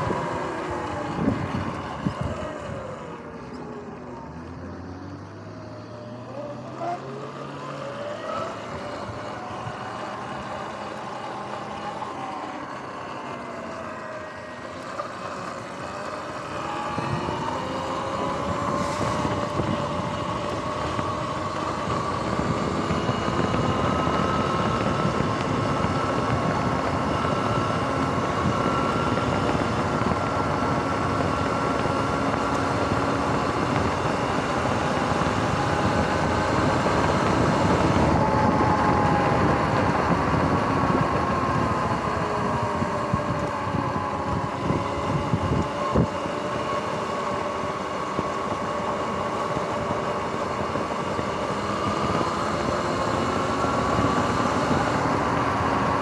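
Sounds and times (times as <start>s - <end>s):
tyre and wind noise: 0.0s - 4.3s, 5.6s - 56.0s
electric motor whining: 0.0s - 56.0s.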